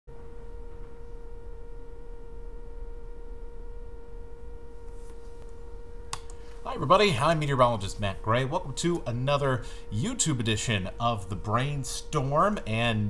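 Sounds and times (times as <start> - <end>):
low background hum: 0.1 - 13.0
steady electronic tone: 0.1 - 13.0.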